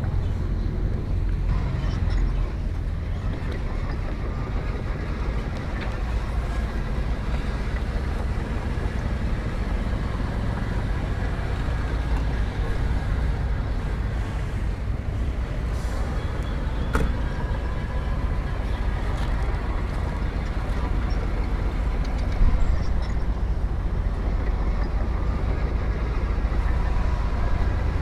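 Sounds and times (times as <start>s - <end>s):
heavy machinery diesel engine rumble: 0.0s - 28.0s.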